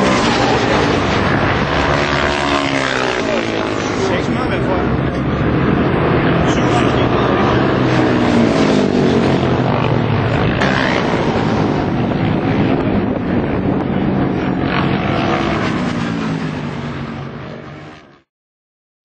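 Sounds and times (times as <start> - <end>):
wind buffeting microphone: 0.0 - 17.5
racing motorcycle engines: 0.0 - 18.3.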